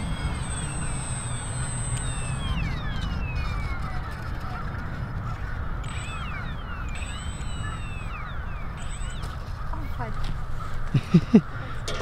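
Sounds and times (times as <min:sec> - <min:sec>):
small electric motor whine: 0:00.0 - 0:11.0
wind buffeting microphone: 0:00.0 - 0:12.0.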